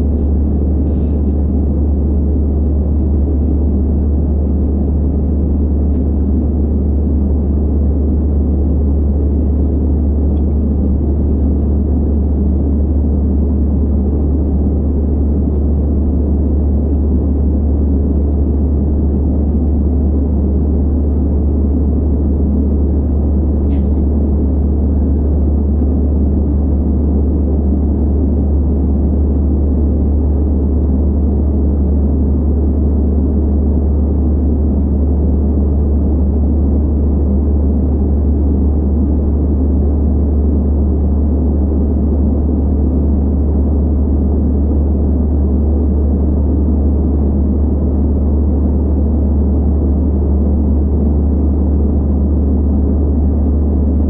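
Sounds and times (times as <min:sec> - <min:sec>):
airplane cabin engine noise: 0:00.0 - 0:54.0.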